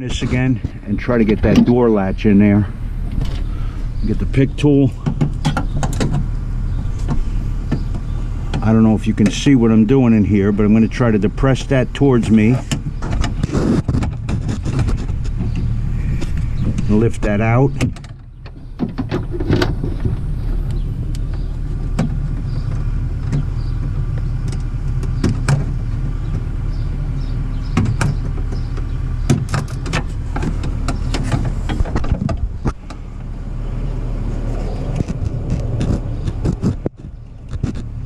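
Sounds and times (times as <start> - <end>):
steady low drone: 0.0 - 38.0.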